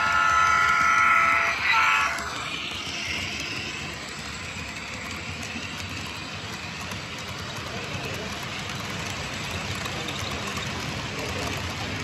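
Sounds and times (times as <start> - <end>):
model train rumbling: 0.0 - 12.0.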